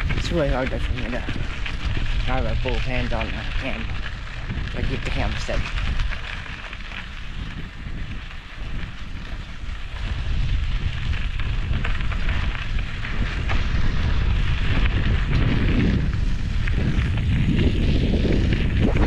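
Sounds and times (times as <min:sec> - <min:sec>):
crackling hiss: 0:00.0 - 0:19.0
wind buffeting microphone: 0:00.0 - 0:19.0.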